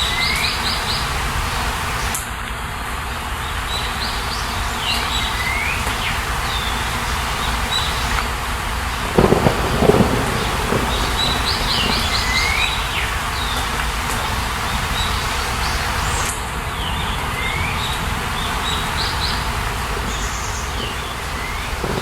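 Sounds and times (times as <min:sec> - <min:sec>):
ambient hiss: 0:00.0 - 0:22.0
birds singing: 0:03.4 - 0:08.3, 0:08.9 - 0:22.0.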